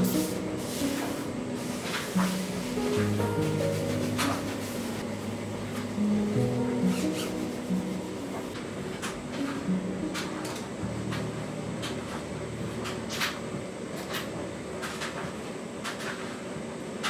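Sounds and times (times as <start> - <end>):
soft background music: 0.0 - 14.6.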